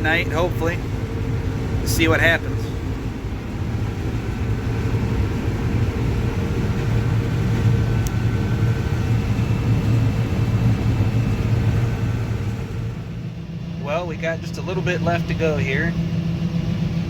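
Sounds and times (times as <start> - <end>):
combine harvester engine drone: 0.0 - 17.0
faint machinery whines: 0.0 - 17.0.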